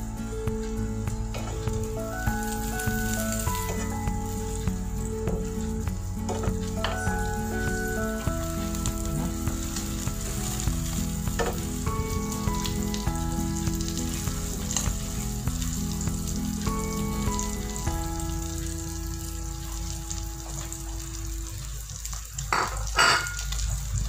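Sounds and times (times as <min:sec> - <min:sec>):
omelette sizzling in frying pan: 0:00.0 - 0:24.0.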